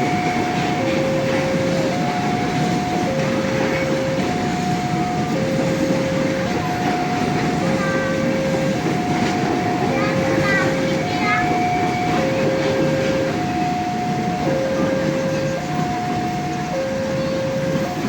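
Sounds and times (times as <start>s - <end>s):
passing train: 0.0s - 18.0s
two-tone crossing alarm: 0.0s - 18.0s.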